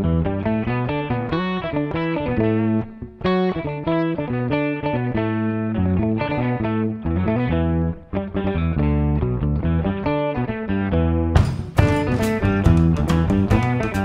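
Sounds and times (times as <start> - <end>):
bass guitar: 0.0 - 14.0
electric guitars playing: 0.0 - 14.0.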